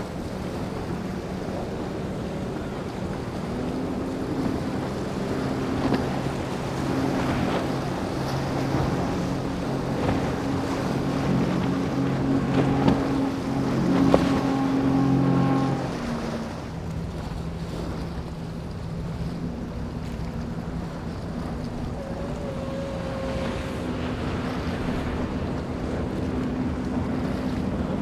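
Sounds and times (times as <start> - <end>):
boat engine humming: 0.0 - 28.0
waves: 0.0 - 28.0.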